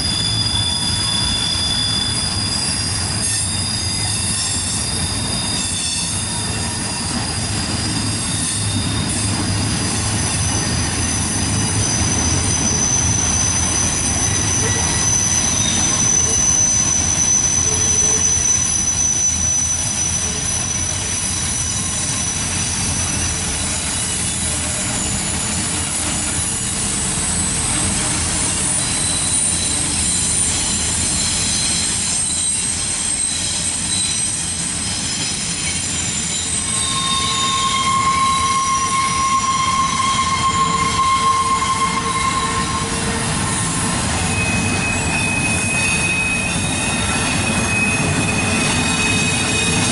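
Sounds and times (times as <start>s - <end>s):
high-pitched wheel squeal: 0.0s - 49.9s
train wheels rumbling on rail: 0.0s - 49.9s.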